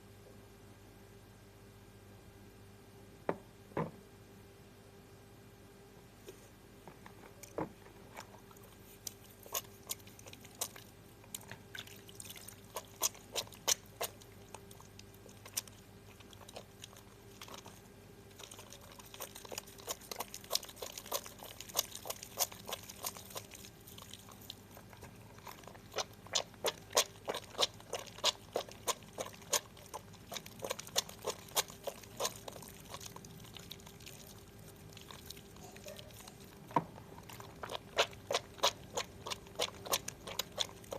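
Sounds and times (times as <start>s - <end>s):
soap lathering wet squelches: 7.4s - 40.9s.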